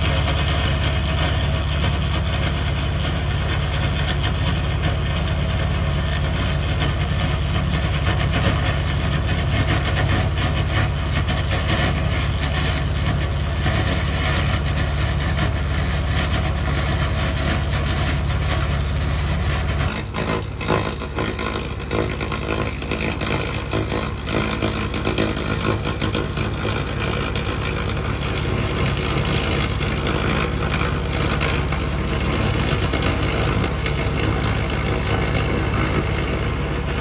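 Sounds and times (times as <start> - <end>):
fine crackle of rust stripping: 0.0 - 37.0.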